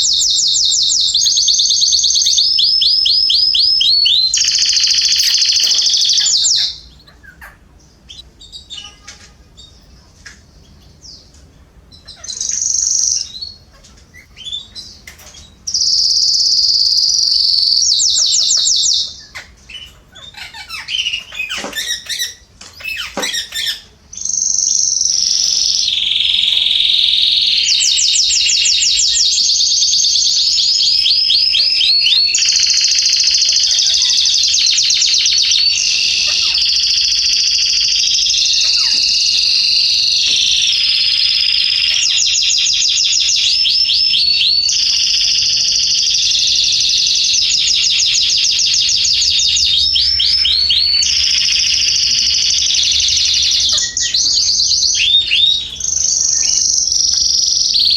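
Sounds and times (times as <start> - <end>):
bird chirps and calls: 0.0 - 57.9
canaries singing trills: 0.0 - 57.9.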